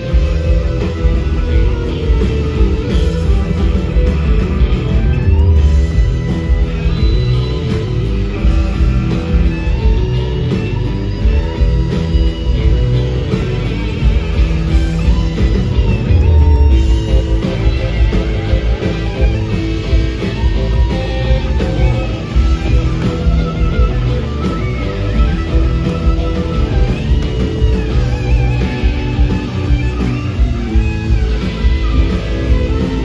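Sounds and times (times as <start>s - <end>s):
bass guitar: 0.0s - 33.0s
blues rock band playing: 0.0s - 33.0s
drums: 0.0s - 33.0s
electric guitars: 0.0s - 33.0s.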